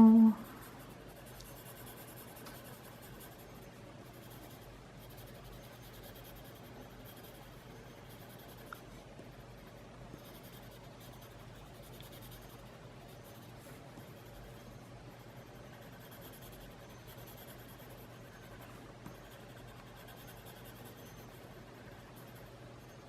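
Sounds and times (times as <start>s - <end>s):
pencil scratching on paper: 0.0s - 23.0s.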